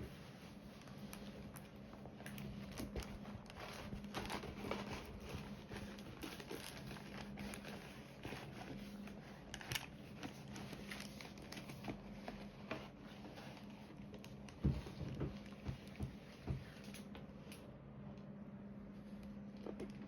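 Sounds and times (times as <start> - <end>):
plastic film rustling: 0.0 - 17.1
low steady hum: 0.0 - 20.0.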